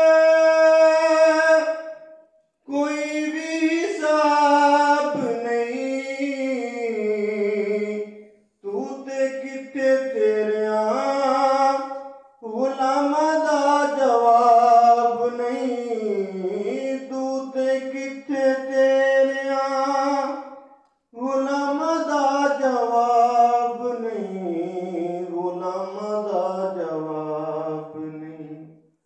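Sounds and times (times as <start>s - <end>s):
man singing unaccompanied: 0.0s - 28.8s.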